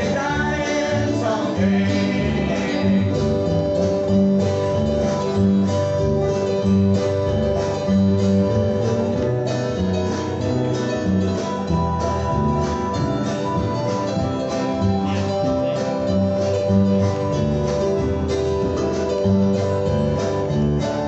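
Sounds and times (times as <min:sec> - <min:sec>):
acoustic guitar strumming: 0:00.0 - 0:21.0
upright bass line: 0:00.0 - 0:21.0.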